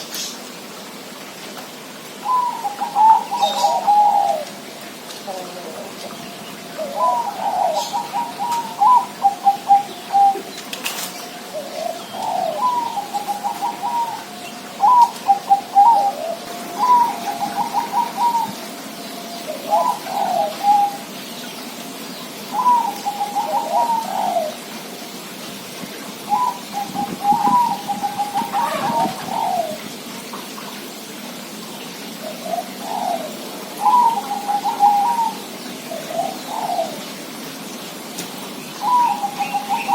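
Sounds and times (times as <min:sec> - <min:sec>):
dove cooing rolling coos: 0:02.2 - 0:21.2, 0:22.4 - 0:24.9, 0:26.1 - 0:31.0, 0:32.2 - 0:37.4, 0:38.8 - 0:39.9.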